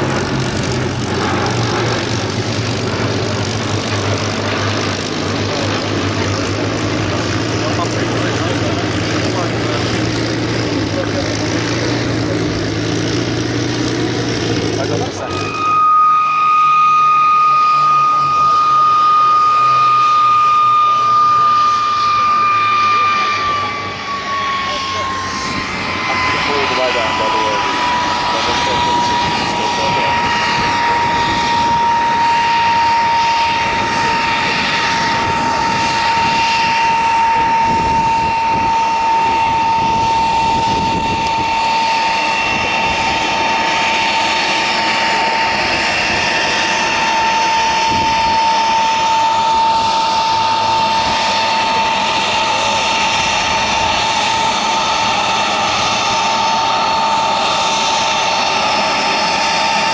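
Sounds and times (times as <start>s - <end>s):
jet engine whine: 0.0s - 59.9s.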